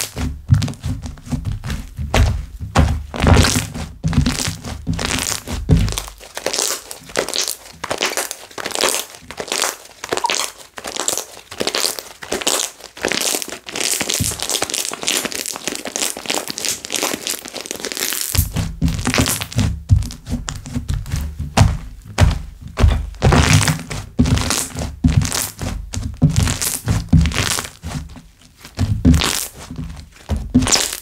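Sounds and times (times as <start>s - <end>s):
slime bubbles crackling: 3.0s - 21.7s, 22.8s - 31.0s.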